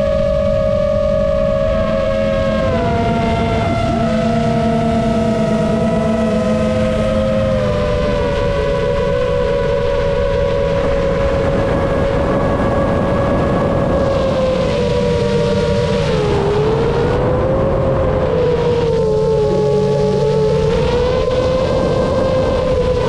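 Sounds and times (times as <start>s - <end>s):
quadcopter motors whining: 0.0s - 23.0s
wind noise: 0.0s - 23.0s.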